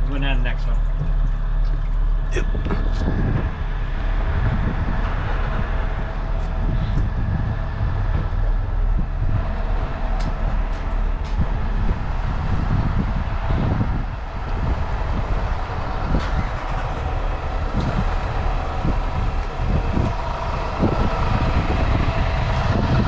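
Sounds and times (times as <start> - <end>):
engine and water pump running: 0.0 - 23.0.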